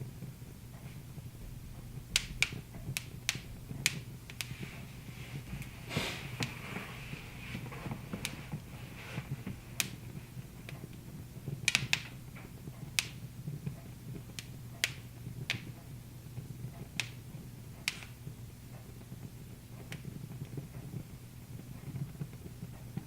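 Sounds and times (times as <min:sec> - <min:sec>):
low steady hum: 0:00.0 - 0:23.0
wood fire crackling: 0:00.0 - 0:23.0.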